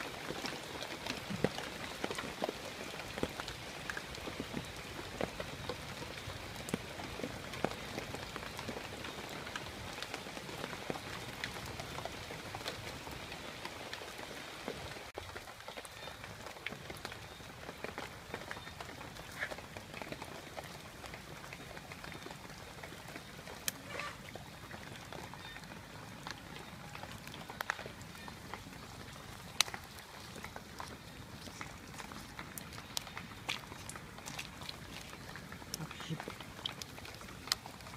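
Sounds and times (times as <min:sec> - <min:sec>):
water drops pattering on leaves: 0:00.0 - 0:37.9.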